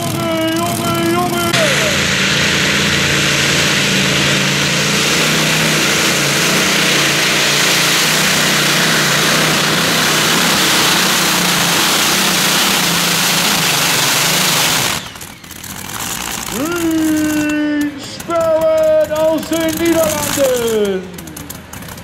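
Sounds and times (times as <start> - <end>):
tractor engines running flat out: 0.0 - 22.0.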